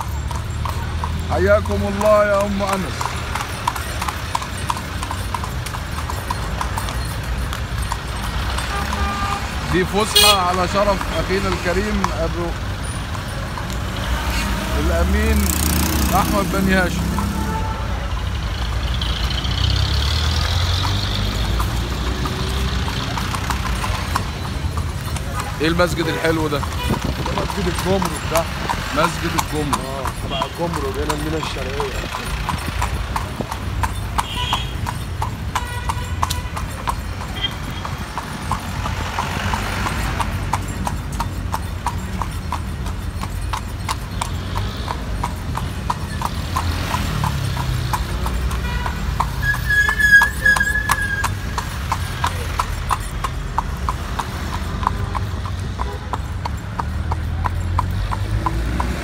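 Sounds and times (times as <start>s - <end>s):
city traffic rumble: 0.0s - 59.0s
horse hooves clip-clopping on road: 0.0s - 59.0s.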